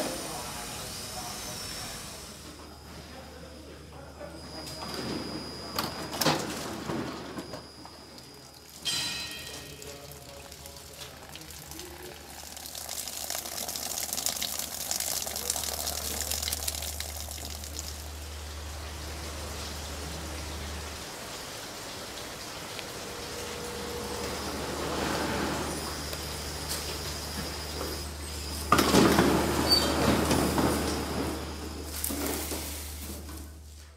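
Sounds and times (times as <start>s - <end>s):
low machine hum: 0.0s - 33.9s.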